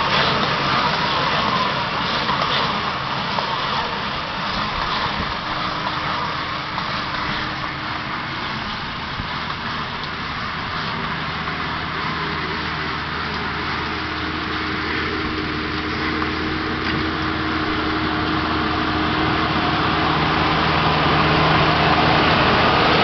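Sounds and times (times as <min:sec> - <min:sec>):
steady mechanical hiss: 0:00.0 - 0:23.0
tractor diesel engine hum: 0:00.0 - 0:23.0.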